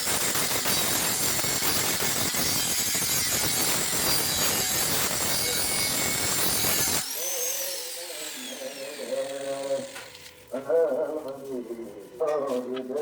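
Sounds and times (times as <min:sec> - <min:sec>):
angle grinder grinding steel: 0:00.0 - 0:10.6.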